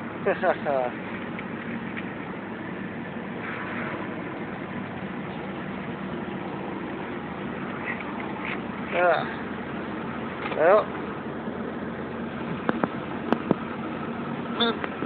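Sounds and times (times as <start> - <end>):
pickup engine hum inside cab: 0.0 - 15.0.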